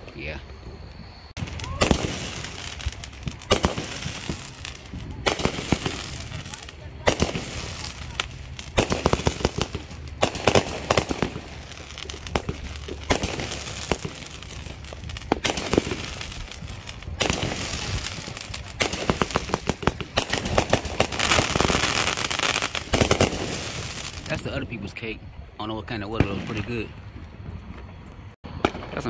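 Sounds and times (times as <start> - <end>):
firework pops and bangs: 1.4 - 24.5, 26.1 - 27.9, 28.5 - 29.0.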